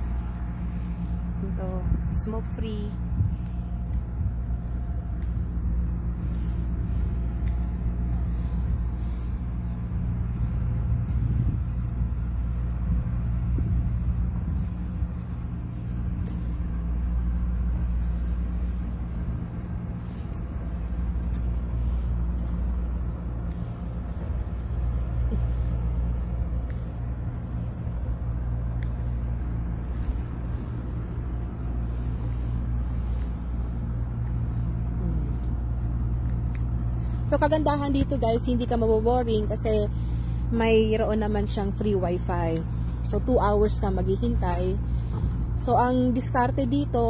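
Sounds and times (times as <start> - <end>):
truck engines idling: 0.0 - 47.0.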